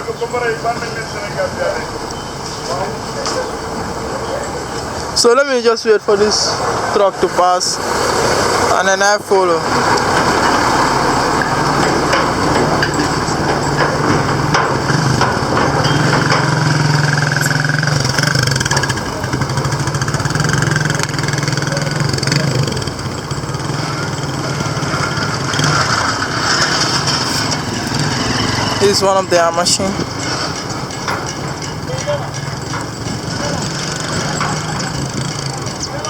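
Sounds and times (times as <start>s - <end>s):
road noise: 0.0s - 36.0s
truck engine running: 0.0s - 36.0s.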